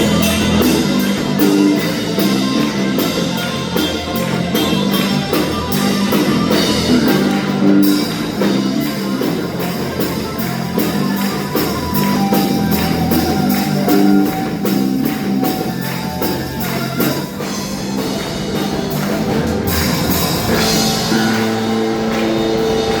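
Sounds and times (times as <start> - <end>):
steady drum beat: 0.0 - 23.0
worship music with guitar: 0.0 - 23.0.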